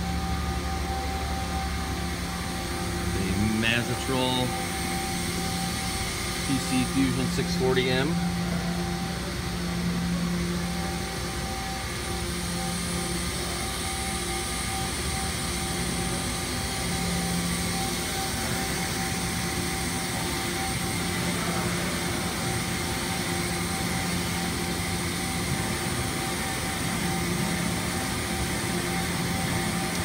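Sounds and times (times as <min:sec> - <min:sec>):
machine humming with hiss: 0:00.0 - 0:30.0.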